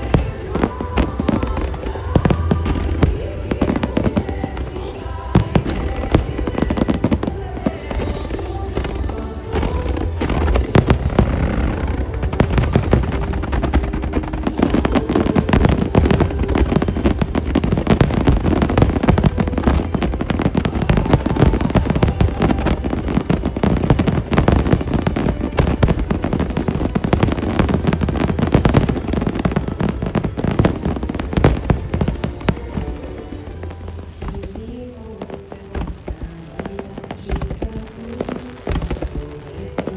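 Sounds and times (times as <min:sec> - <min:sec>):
fireworks bursting: 0:00.0 - 0:39.9
music over loudspeakers: 0:00.0 - 0:39.9.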